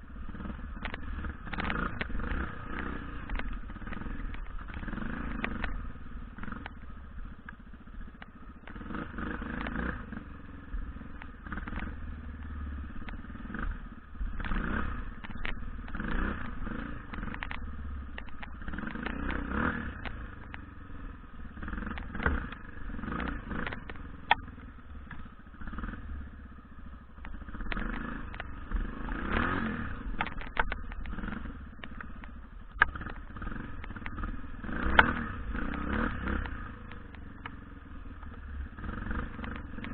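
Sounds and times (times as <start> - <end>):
dirt bike engine revving: 0.2 - 7.3, 8.7 - 20.5, 21.1 - 26.4, 27.3 - 31.9, 32.8 - 37.6, 38.2 - 39.9.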